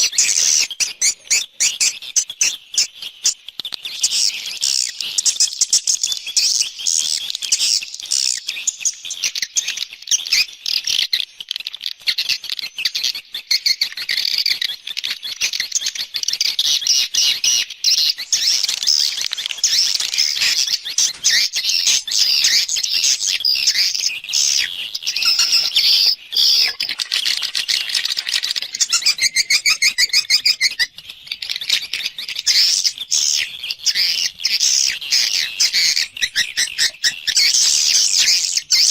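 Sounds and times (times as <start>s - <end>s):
swiftlets chirping and twittering: 0.0s - 38.9s.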